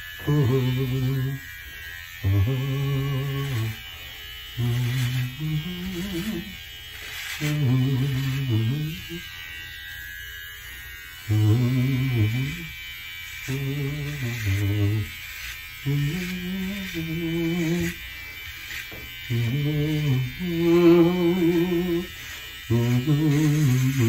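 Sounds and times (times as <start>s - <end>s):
man humming: 0.0s - 6.6s, 7.2s - 9.4s, 11.2s - 18.1s, 19.2s - 24.0s
electric shaver buzzing: 0.0s - 24.0s.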